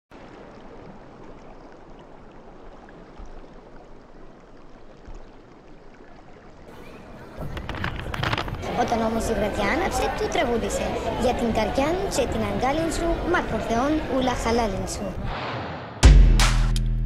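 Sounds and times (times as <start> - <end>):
outdoor ambience: 0.1 - 17.0.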